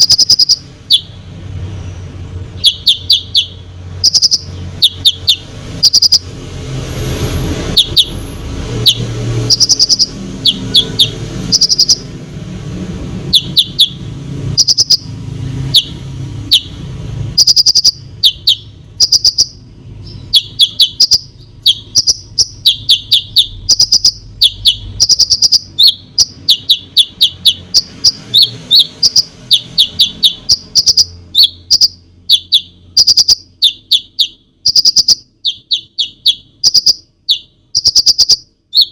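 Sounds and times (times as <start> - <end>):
bird chirping and trilling: 0.0 - 6.4, 7.6 - 12.2, 13.2 - 38.9.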